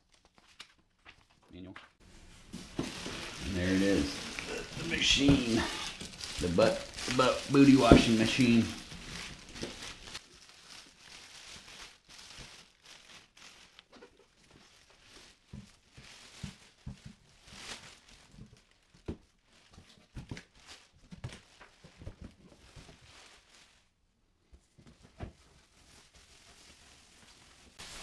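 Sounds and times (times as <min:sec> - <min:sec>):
packaging rustling and crinkling: 0:00.0 - 0:01.4, 0:02.0 - 0:24.0, 0:24.7 - 0:28.0.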